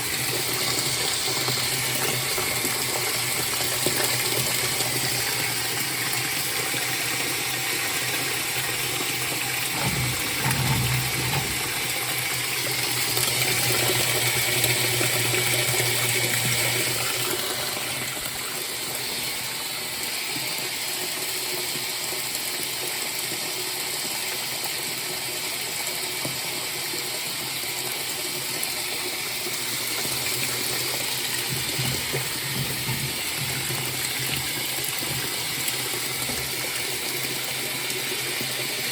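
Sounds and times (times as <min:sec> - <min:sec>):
water rushing into washing machine: 0:00.0 - 0:38.9.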